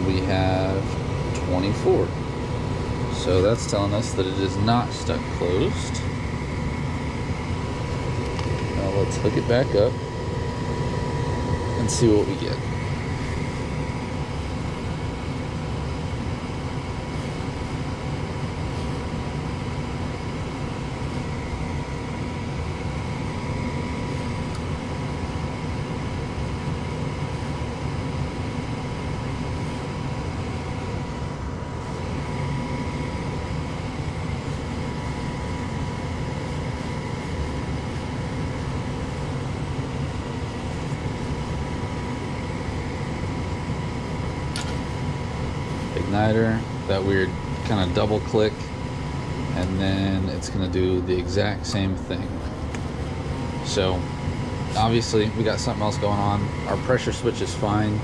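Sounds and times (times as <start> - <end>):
inducer motor humming: 0.0 - 58.0.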